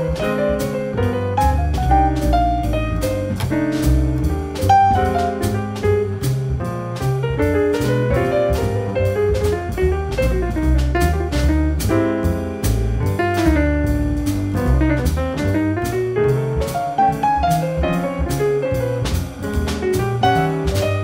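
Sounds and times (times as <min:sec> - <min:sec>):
grand piano: 0:00.0 - 0:21.0
walking upright bass: 0:00.0 - 0:21.0.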